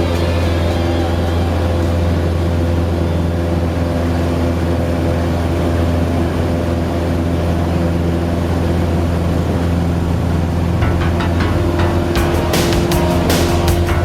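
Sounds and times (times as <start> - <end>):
light aircraft engine droning: 0.0 - 11.6.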